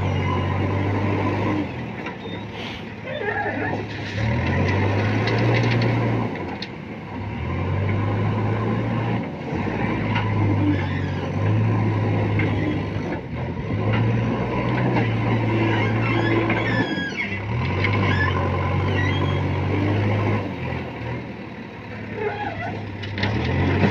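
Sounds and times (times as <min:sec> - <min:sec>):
diesel engine under load: 0:00.0 - 0:23.9.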